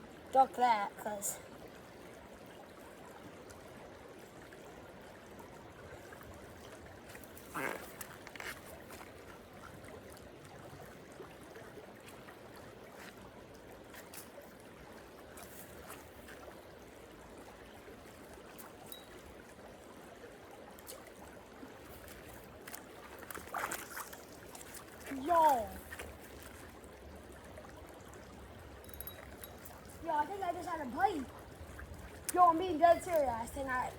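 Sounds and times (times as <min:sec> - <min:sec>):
creek trickling: 0:00.0 - 0:33.9.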